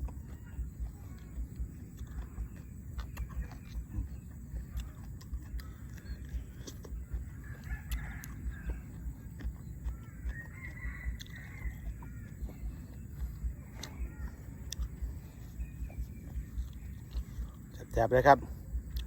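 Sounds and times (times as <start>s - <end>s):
person chewing crunchy vegetables: 0.0s - 19.0s
faint bird call: 2.1s - 17.6s.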